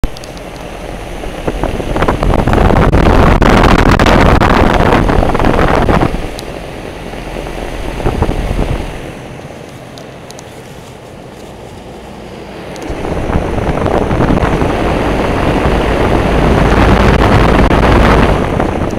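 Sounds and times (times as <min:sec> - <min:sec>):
heat pump fan air rushing: 0:00.0 - 0:18.9.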